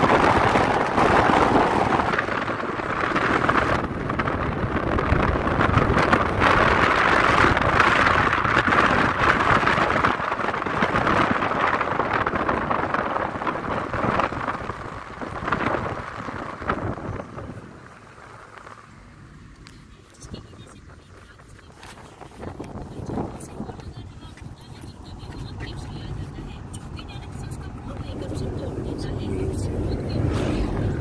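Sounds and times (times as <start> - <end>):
road rumble: 0.0 - 31.0
wind rushing over microphone: 0.0 - 31.0.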